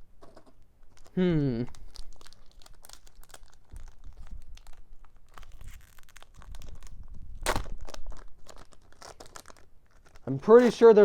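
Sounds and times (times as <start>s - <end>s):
trading cards rustling: 0.2s - 11.0s
foil wrapper crinkling: 0.8s - 11.0s.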